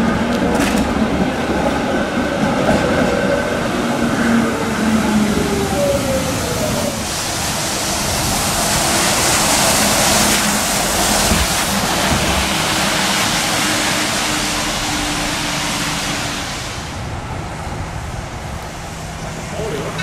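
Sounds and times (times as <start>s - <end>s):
bus tyres hissing on wet road: 3.7s - 20.0s.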